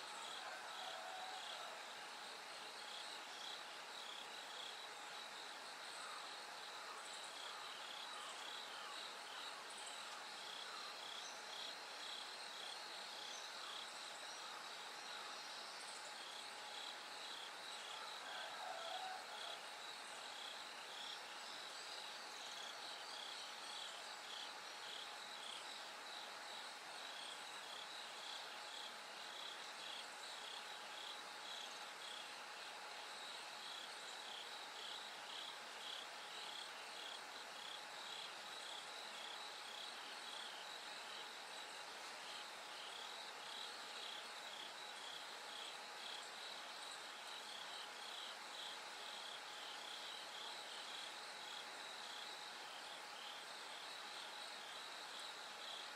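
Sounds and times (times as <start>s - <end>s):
crickets chirping: 0.0s - 55.9s
lower insect call: 0.0s - 55.9s.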